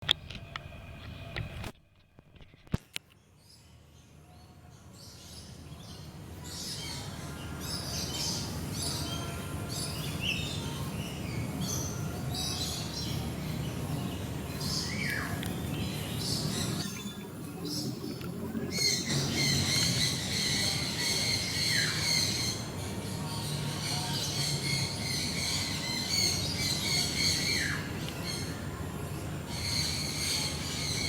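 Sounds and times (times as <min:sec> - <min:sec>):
low background hum: 0:00.0 - 0:31.0
birds chirping and calling: 0:05.2 - 0:31.0.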